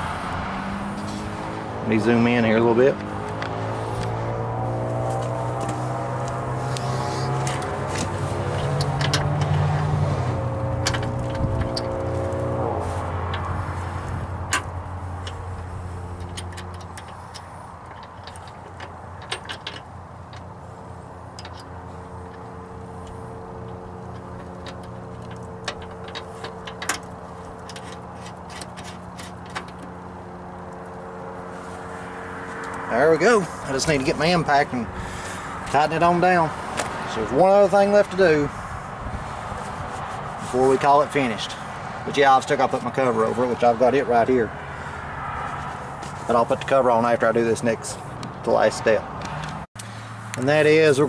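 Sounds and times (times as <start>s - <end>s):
engine running: 0.0s - 51.0s.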